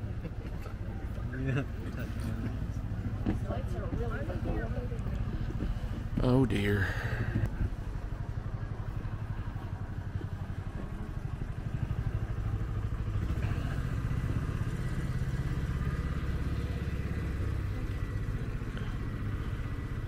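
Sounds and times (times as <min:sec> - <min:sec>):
engine running low rumble: 0:00.0 - 0:20.0.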